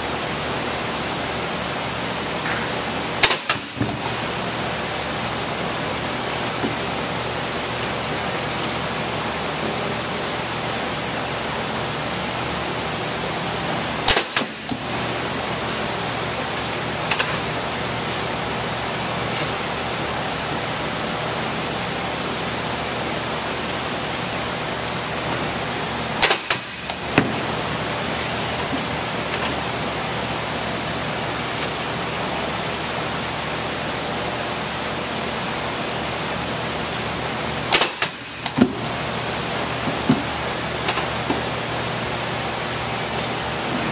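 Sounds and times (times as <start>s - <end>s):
steady hiss background noise: 0.0s - 43.9s.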